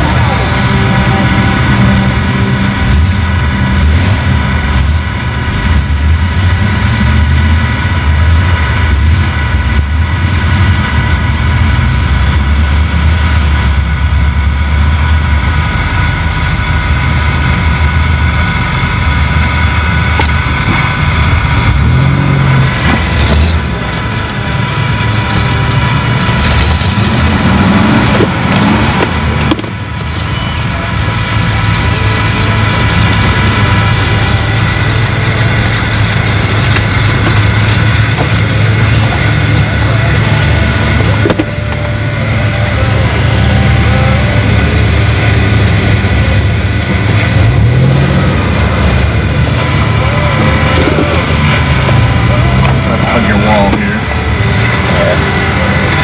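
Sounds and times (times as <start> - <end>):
truck engine low hum: 0.0 - 56.0.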